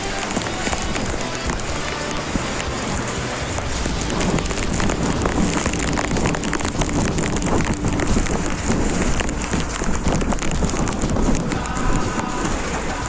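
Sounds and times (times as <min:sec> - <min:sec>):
heavy rain pattering: 0:00.0 - 0:13.0
wind buffeting microphone: 0:00.0 - 0:13.0.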